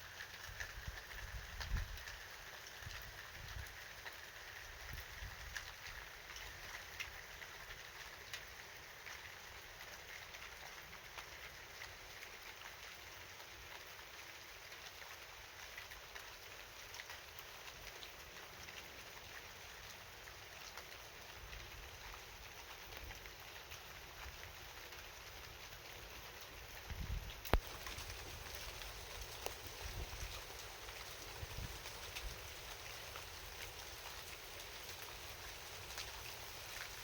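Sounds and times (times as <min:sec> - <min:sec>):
raindrops ticking on surface: 0:00.0 - 0:37.0
steady rain hiss: 0:00.0 - 0:37.0.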